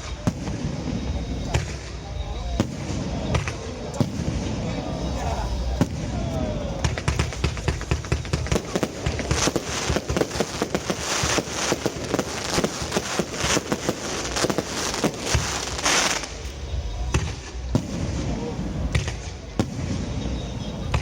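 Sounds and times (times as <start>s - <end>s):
fireworks popping and banging: 0.0s - 21.0s
hissing crackle bursts: 0.0s - 21.0s.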